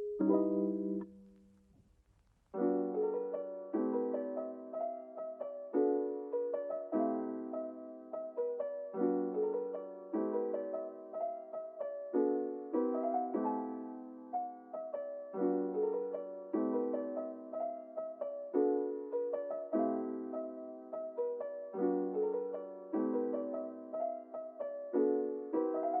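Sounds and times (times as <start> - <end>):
soft slow piano music: 0.0 - 1.8, 2.5 - 26.0.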